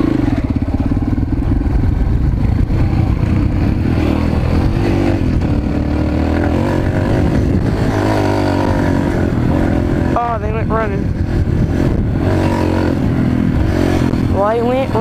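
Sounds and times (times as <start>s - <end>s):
small engine revving: 2.5s - 15.0s.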